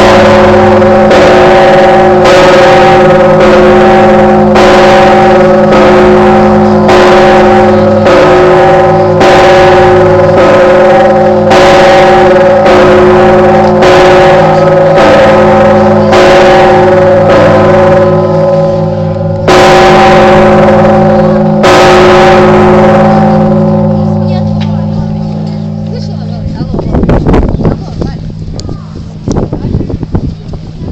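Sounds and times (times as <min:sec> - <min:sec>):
church bell ringing: 0:00.0 - 0:29.3.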